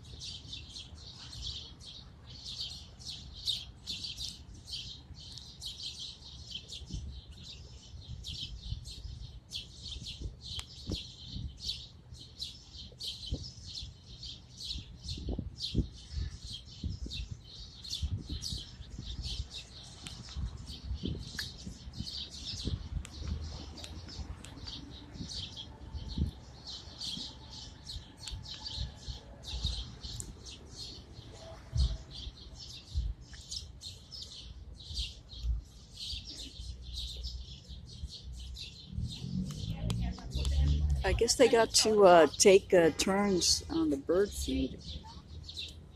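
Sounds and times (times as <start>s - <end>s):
flock of birds chirping: 0.0s - 45.9s.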